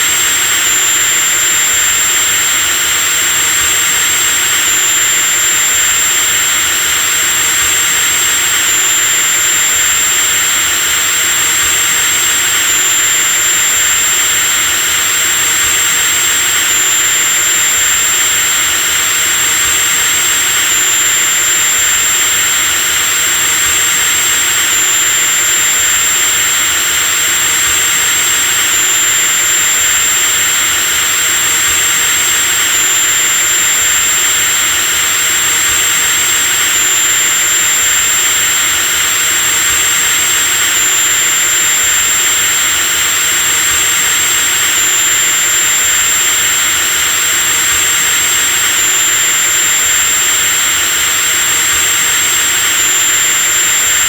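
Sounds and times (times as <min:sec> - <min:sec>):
electric drill whining: 0:00.0 - 0:54.0.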